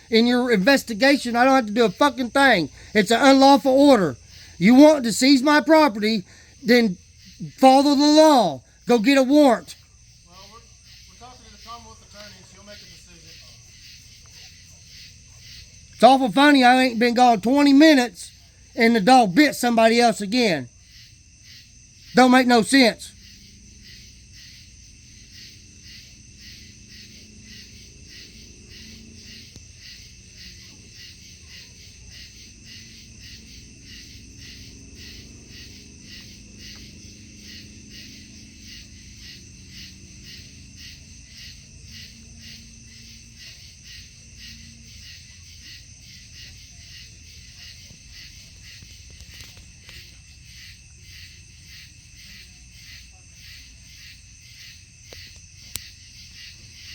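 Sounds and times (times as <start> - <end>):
night insects chirping: 0.0 - 56.9.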